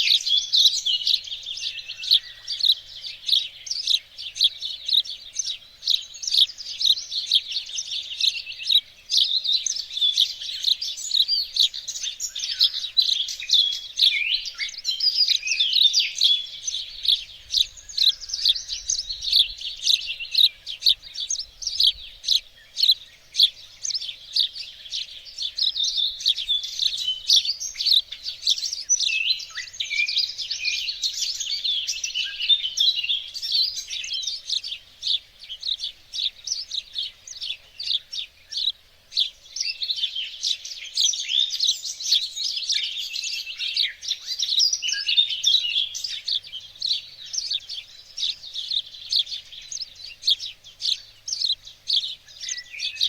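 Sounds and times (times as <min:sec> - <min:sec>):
songbirds chorus: 0:00.0 - 0:53.0.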